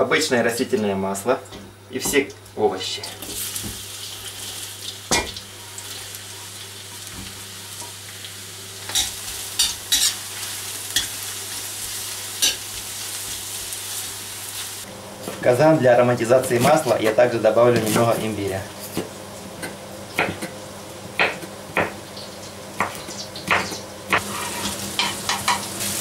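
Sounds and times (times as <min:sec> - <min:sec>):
vegetables sizzling in oil: 0:02.0 - 0:26.0.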